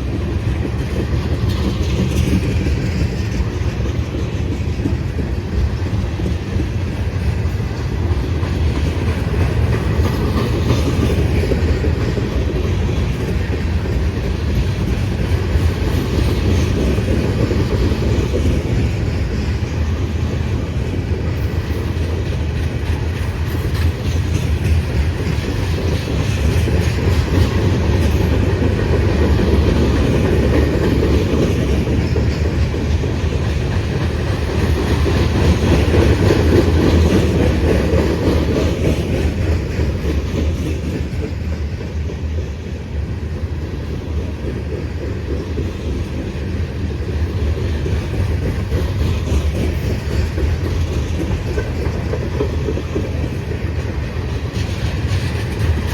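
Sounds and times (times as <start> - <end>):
freight train wheels rumbling: 0.0 - 55.9
wheels clicking over rail joints: 0.0 - 55.9.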